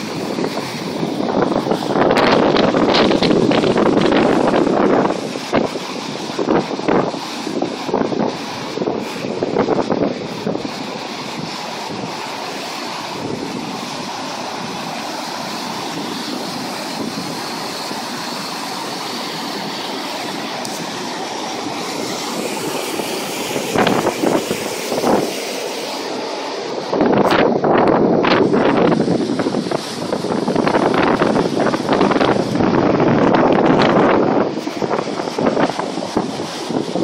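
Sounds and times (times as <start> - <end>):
floodwater rushing: 0.0 - 37.0
wind buffeting microphone: 0.0 - 37.0.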